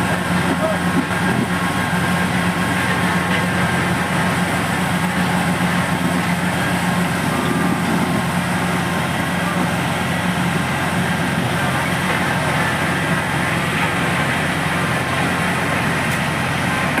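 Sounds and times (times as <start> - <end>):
diesel machinery engine drone: 0.0 - 17.0.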